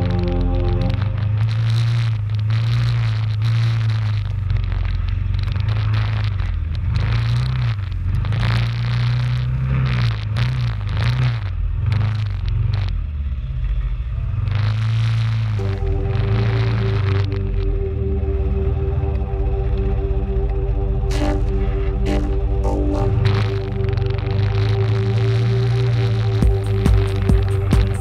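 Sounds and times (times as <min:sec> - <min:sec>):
quad bike engine revving: 0:00.0 - 0:17.7, 0:21.1 - 0:28.0.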